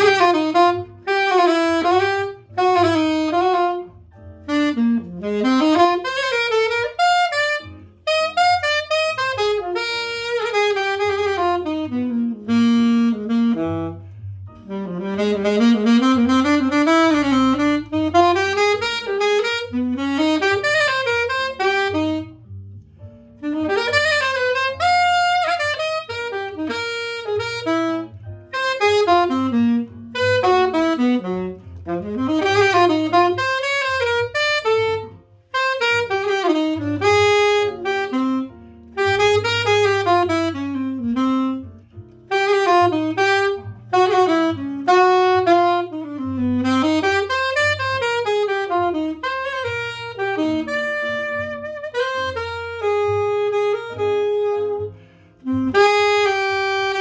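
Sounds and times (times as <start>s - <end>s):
low accompaniment: 0.0s - 57.0s
saxophone playing slow melody: 0.0s - 57.0s.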